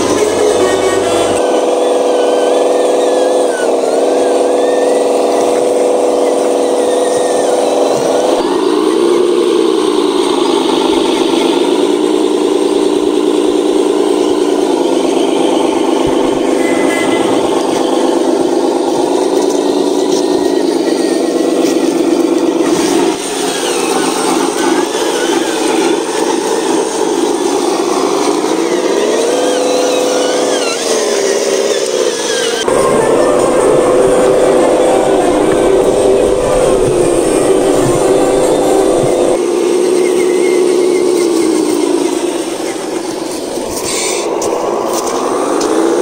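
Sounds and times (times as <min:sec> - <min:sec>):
toy truck motor running: 0:00.0 - 0:46.0.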